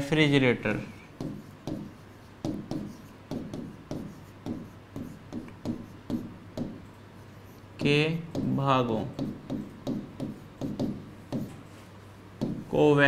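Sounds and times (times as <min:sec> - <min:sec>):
stylus tapping and scraping on screen: 0:01.2 - 0:12.7.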